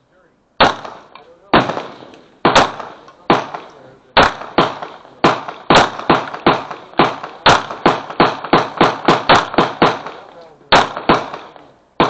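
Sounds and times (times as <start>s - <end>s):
pistol shots: 0.6s - 12.0s.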